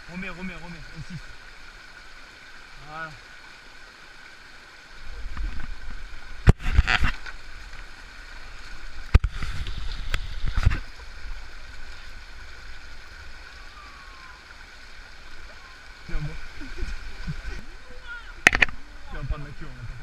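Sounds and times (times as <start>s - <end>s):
stream running over stones: 0.0s - 20.0s.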